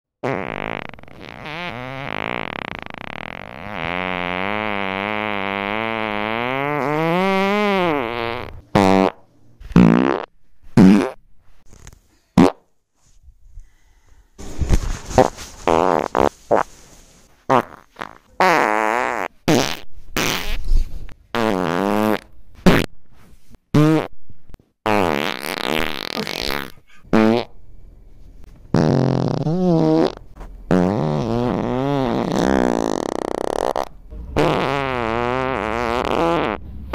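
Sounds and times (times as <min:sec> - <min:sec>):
farting: 0:00.2 - 0:12.7, 0:15.2 - 0:16.7, 0:17.5 - 0:22.9, 0:23.7 - 0:24.2, 0:24.8 - 0:27.5, 0:28.7 - 0:36.6.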